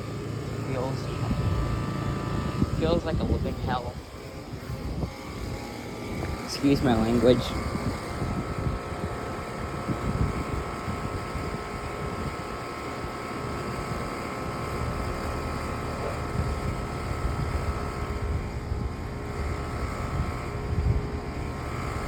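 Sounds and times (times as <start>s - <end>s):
air conditioner fan whirring: 0.0s - 22.0s.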